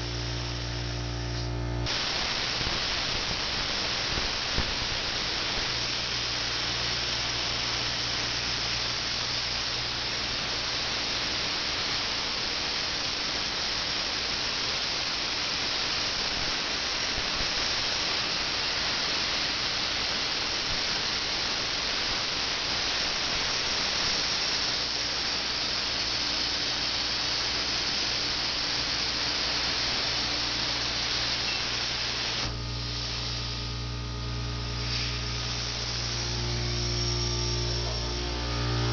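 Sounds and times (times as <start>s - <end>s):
machine electrical hum: 0.0s - 38.9s
plasma cutter arc hissing: 0.0s - 38.9s.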